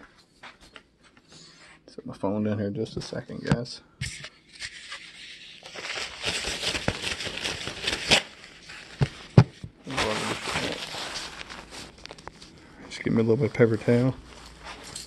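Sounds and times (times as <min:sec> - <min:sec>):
rustling and scraping handling noise: 0:02.9 - 0:15.0.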